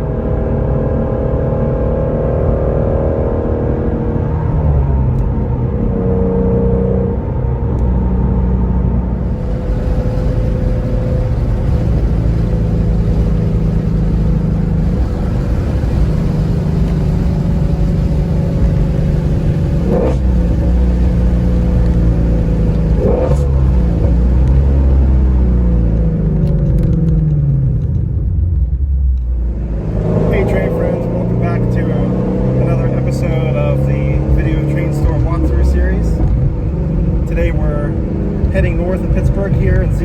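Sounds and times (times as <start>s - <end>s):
car engine running: 3.5s - 40.0s.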